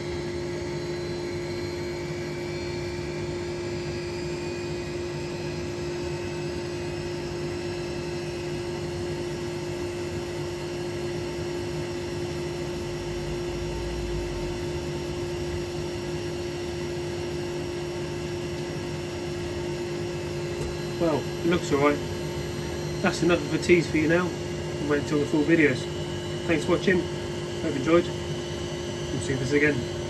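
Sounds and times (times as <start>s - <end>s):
washing machine whirring: 0.0s - 30.0s.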